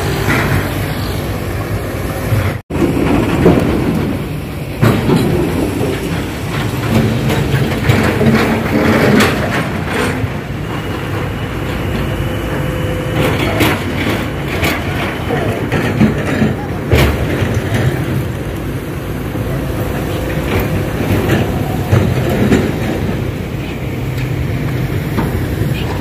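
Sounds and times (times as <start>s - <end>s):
heavy diesel machinery running: 0.0s - 26.0s
metal clanks and knocks: 2.3s - 26.0s.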